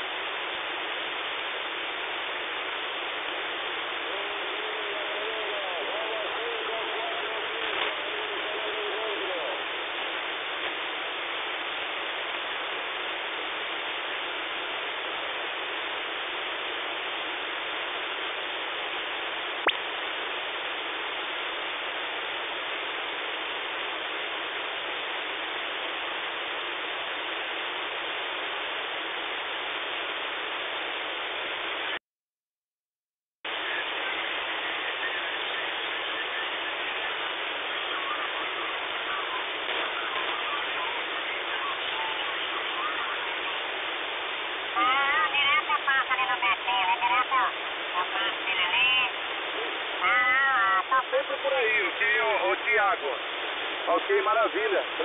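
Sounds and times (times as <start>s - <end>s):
radio static hiss: 0.0s - 32.0s, 33.4s - 55.0s.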